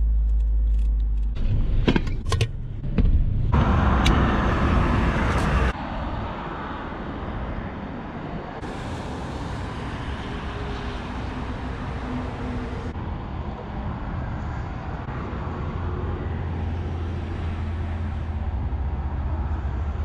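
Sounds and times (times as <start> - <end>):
road and car noise: 0.0 - 20.0.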